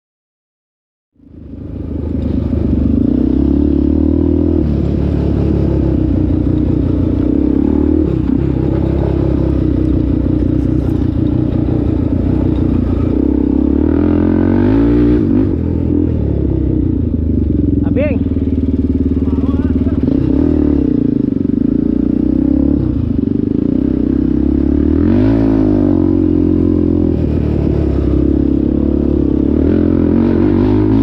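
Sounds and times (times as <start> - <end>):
atv engine running: 1.2 - 31.0.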